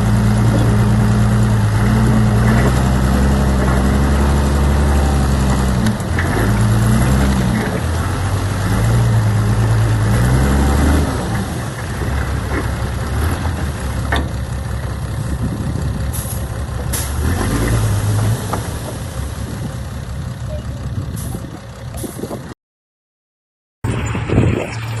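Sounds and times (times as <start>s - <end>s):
diesel engine running: 0.0s - 22.6s.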